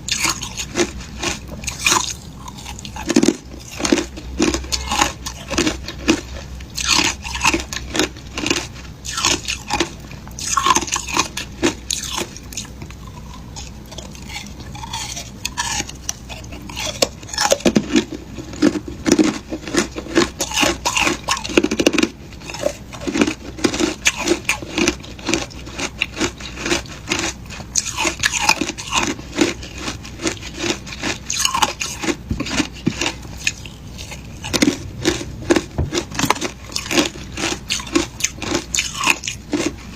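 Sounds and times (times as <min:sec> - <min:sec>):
crunching and chewing shaved ice: 0:00.0 - 0:39.9.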